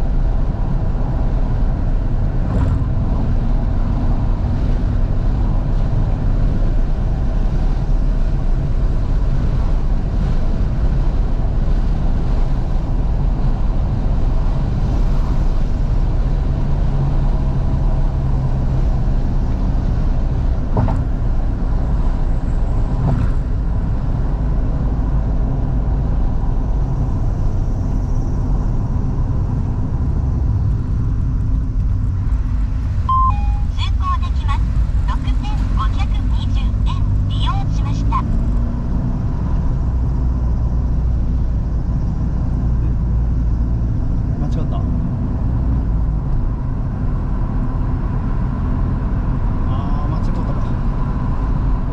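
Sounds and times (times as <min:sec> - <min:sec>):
car engine running: 0:00.0 - 0:51.9
tyres on road: 0:00.0 - 0:51.9.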